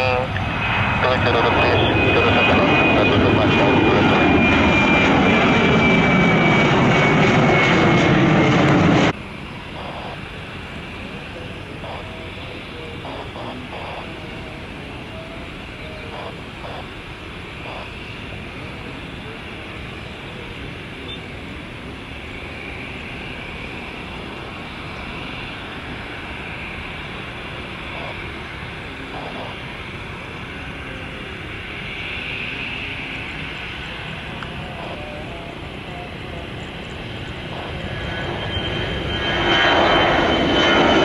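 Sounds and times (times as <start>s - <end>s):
jet engines at takeoff power: 0.0s - 41.0s.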